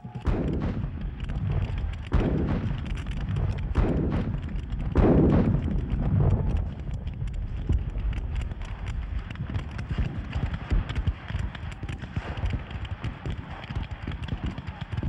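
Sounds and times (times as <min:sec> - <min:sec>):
continuous low rumble: 0:00.0 - 0:14.9
cannons firing: 0:00.0 - 0:15.0.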